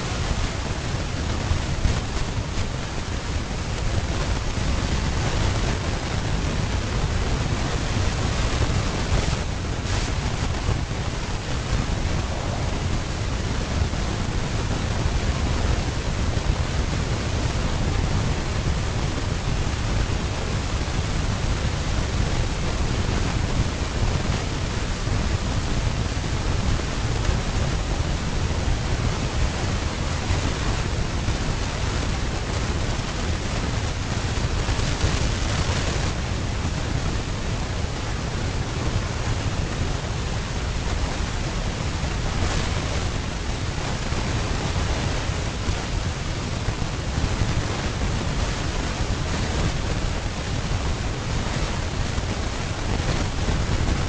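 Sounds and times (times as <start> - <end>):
rushing noise with low rumble: 0.0 - 54.0.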